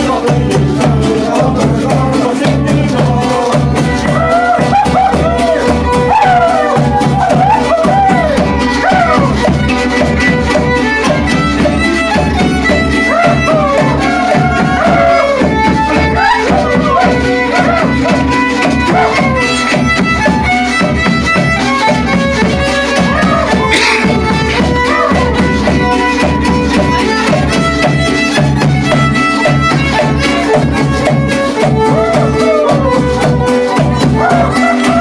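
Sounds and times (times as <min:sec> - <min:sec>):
fiddle melody: 0:00.0 - 0:35.0
strummed guitar: 0:00.0 - 0:35.0.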